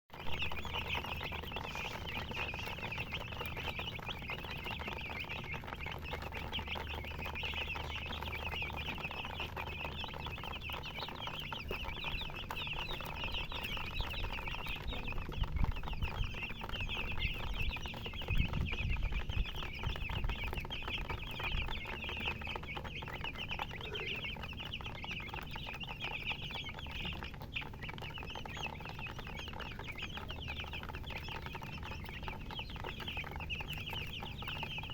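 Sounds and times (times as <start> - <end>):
baby chicks peeping: 0.1 - 34.9.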